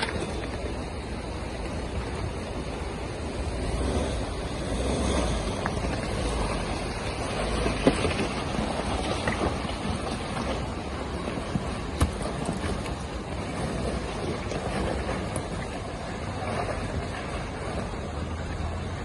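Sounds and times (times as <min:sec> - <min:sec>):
vehicle driving over rough ground: 0:00.0 - 0:19.0.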